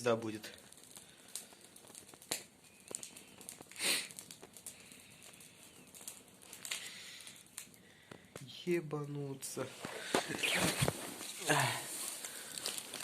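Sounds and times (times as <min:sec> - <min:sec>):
brushwood fire crackling: 0:00.0 - 0:13.0.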